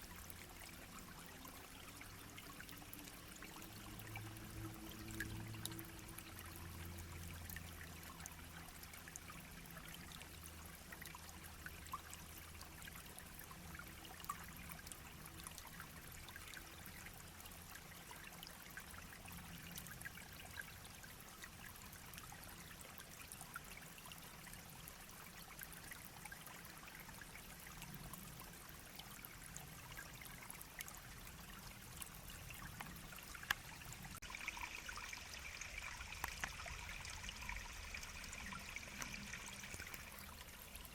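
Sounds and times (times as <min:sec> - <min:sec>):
brook babbling and trickling: 0:00.0 - 0:40.9.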